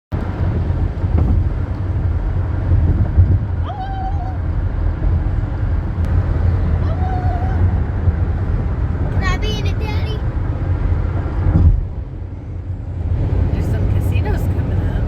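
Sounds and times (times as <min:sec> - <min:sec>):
car road and engine rumble: 0:00.1 - 0:15.0.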